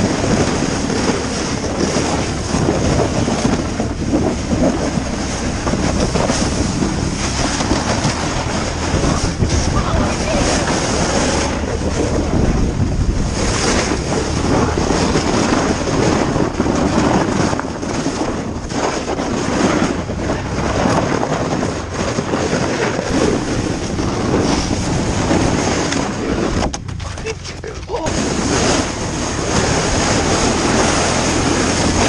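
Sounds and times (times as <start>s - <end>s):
sled scraping over snow: 0.0s - 32.0s
wind rushing over microphone: 0.0s - 32.0s.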